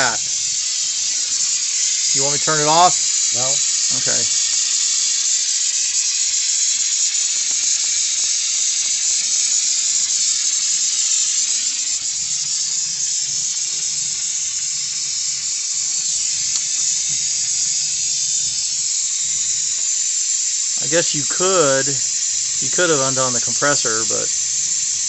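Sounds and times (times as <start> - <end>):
gas torch flame hissing: 0.0 - 25.0.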